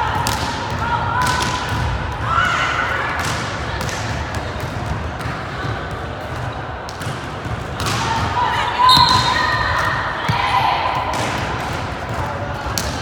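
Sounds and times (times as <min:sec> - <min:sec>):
crowd chattering and shouting: 0:00.0 - 0:13.0.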